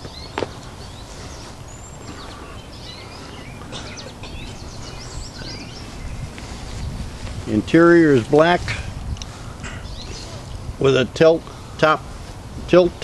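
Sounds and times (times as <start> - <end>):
birds chirping: 0.0 - 13.0
low background rumble: 0.0 - 13.0.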